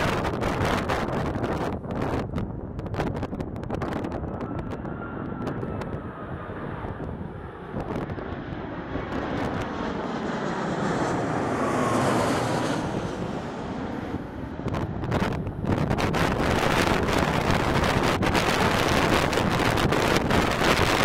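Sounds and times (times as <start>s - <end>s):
jet engines passing overhead: 0.0s - 21.0s
wind buffeting microphone: 0.0s - 21.0s.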